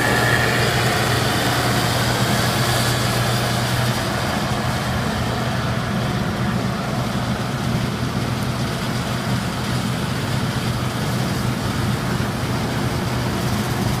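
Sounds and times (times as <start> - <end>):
combine harvester engine hum: 0.0 - 14.0
mechanical threshing rush: 0.0 - 14.0.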